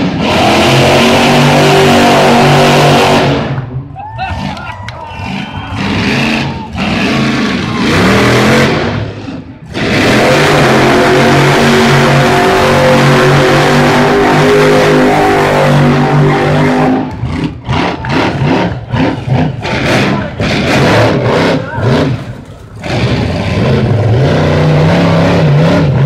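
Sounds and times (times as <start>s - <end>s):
racing engine revving: 0.0s - 26.0s.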